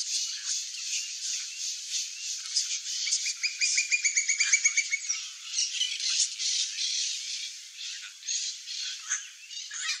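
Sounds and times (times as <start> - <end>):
forest background hiss: 0.0 - 10.0.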